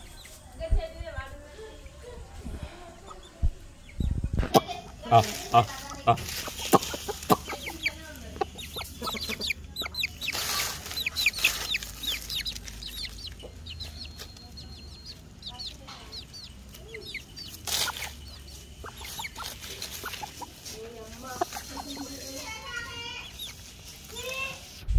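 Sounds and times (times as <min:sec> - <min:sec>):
chicks peeping: 0:00.0 - 0:24.9
chicken clucking: 0:01.8 - 0:24.4
dry leaves rustling: 0:04.7 - 0:24.9.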